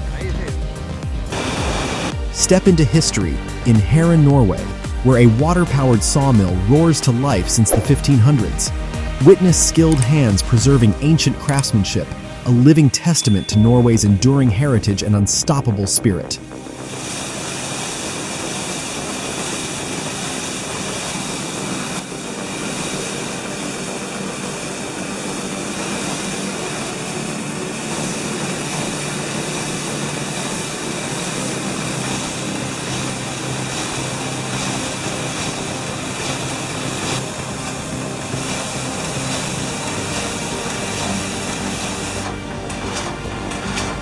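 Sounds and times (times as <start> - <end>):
faint steady tones: 0.0 - 44.0
machinery rushing drone: 0.0 - 44.0.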